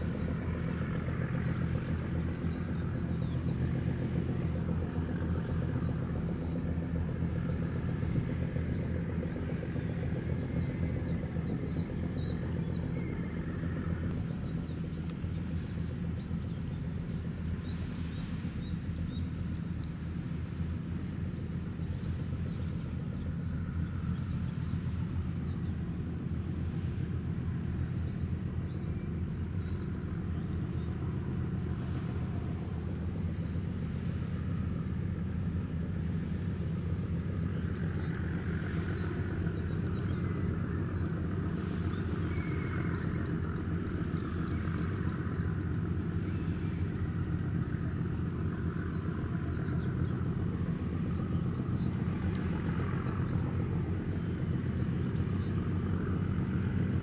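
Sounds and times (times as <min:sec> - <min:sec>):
ship engine rumble: 0:00.0 - 0:57.0.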